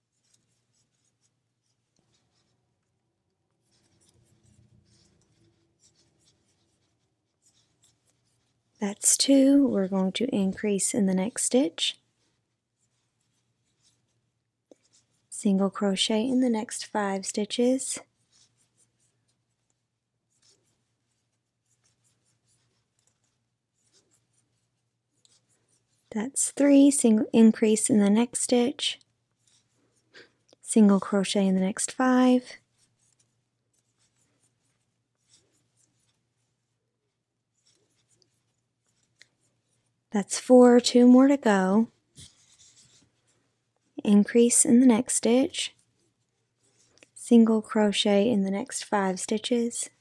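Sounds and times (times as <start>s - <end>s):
yarn rustling on crochet hook: 0.0s - 50.0s.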